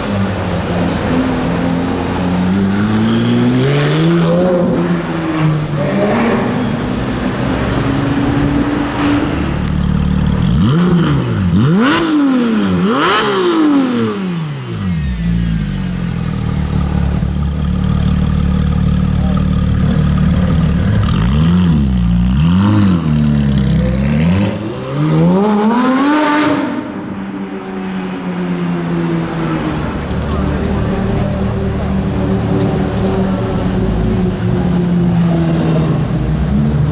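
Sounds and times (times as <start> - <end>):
sports car engine idling and revving: 0.0 - 36.9.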